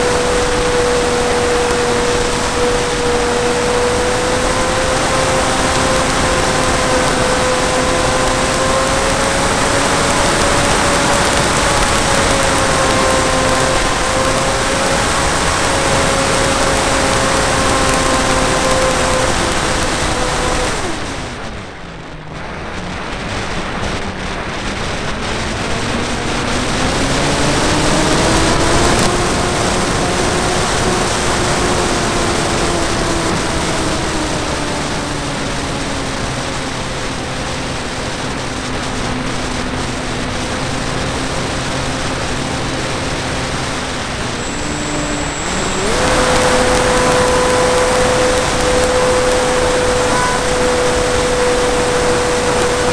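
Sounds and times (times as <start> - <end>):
model plane motor whine: 0.0 - 21.4, 25.1 - 52.9
steady rushing noise: 0.0 - 52.9.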